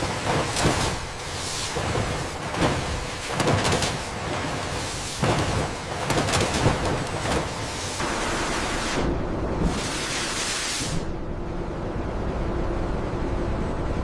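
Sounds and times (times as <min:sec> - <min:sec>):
low machine hum: 0:00.0 - 0:09.8, 0:11.0 - 0:14.0.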